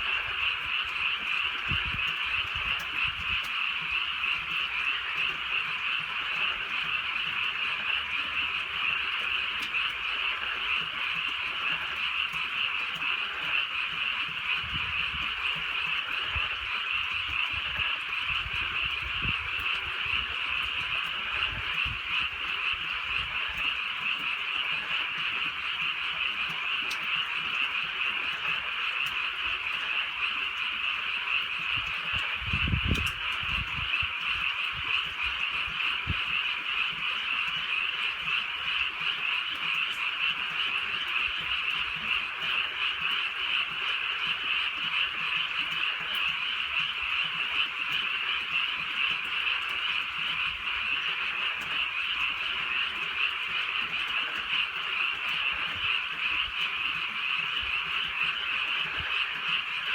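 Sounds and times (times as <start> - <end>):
chorus of frogs calling: 0.0 - 59.9.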